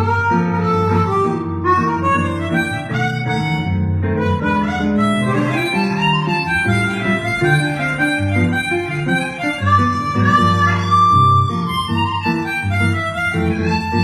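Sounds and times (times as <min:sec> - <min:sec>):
guitar accompaniment: 0:00.0 - 0:14.0
harmonica melody: 0:00.0 - 0:14.0.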